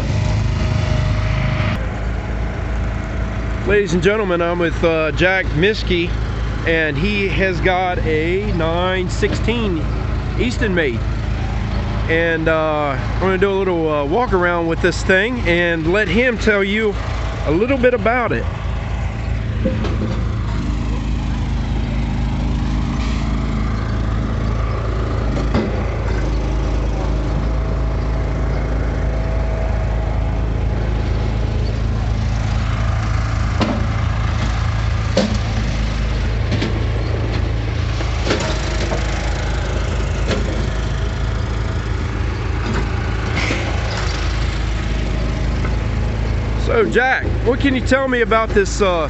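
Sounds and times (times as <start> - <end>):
log splitter engine running: 0.0 - 49.0.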